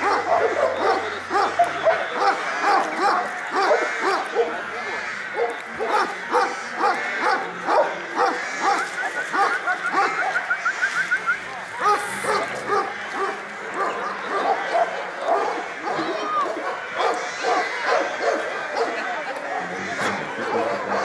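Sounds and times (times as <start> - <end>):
large dogs barking: 0.0 - 21.0.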